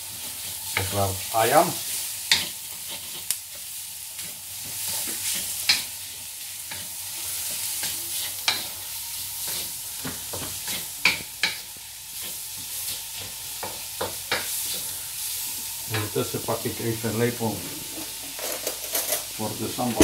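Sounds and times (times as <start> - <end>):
chicken sizzling in a wok: 0.0 - 20.0.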